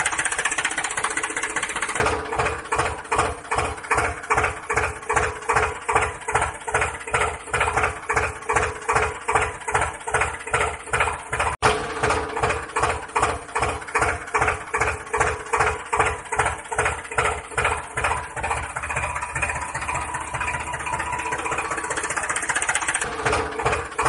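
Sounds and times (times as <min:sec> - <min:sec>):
engine idling with slow chug: 0:00.0 - 0:24.0.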